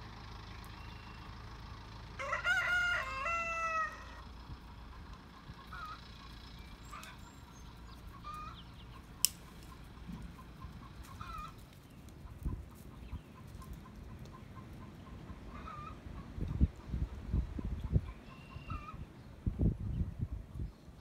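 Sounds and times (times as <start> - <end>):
roosters clucking: 0.0 - 21.0.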